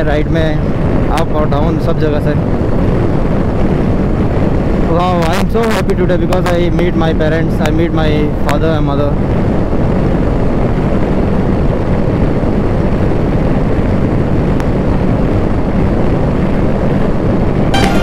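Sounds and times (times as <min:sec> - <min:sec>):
rushing wind and road noise: 0:00.0 - 0:18.0.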